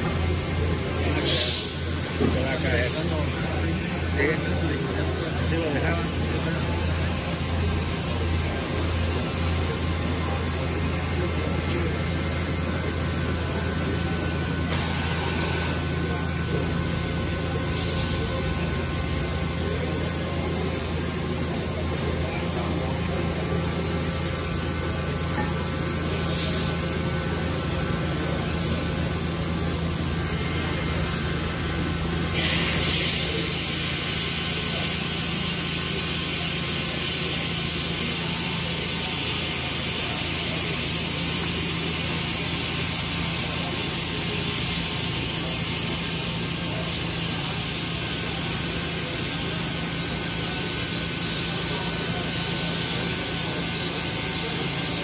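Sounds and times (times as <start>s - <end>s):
machinery hum with hiss: 0.0s - 55.0s.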